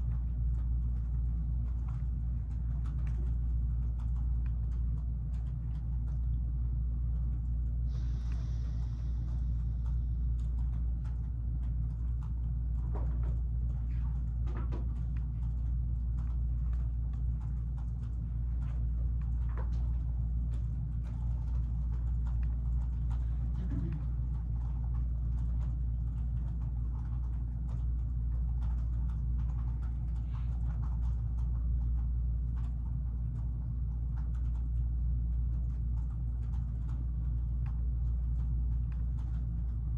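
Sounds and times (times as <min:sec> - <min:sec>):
faint clicks and taps: 0:00.0 - 0:39.9
room background hum: 0:00.0 - 0:39.9.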